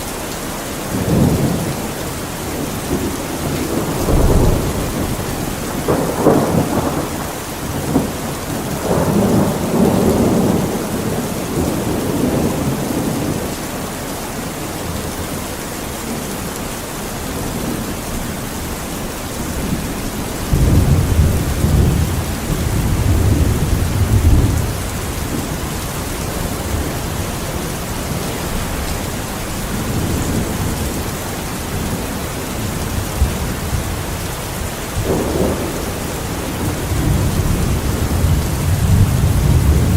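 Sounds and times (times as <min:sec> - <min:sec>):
steady rain: 0:00.0 - 0:39.9
thunder rumbling: 0:00.9 - 0:13.7, 0:16.1 - 0:39.9.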